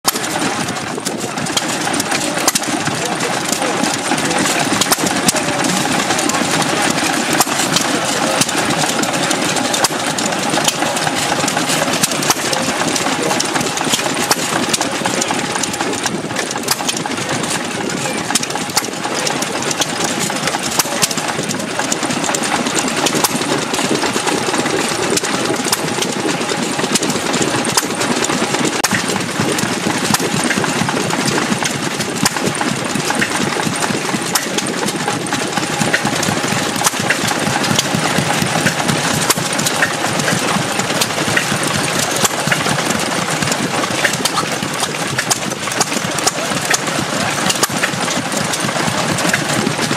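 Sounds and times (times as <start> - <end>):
stationary engine clattering: 0.0 - 49.9.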